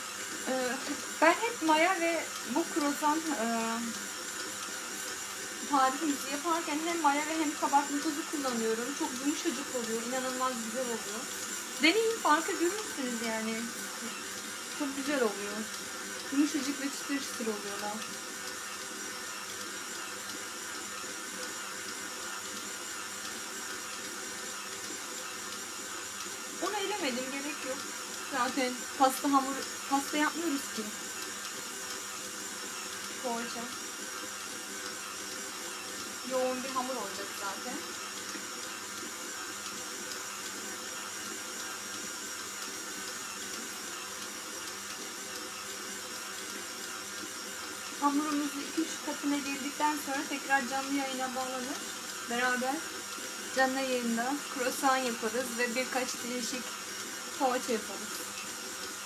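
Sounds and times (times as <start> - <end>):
stand mixer motor humming: 0.0 - 59.0.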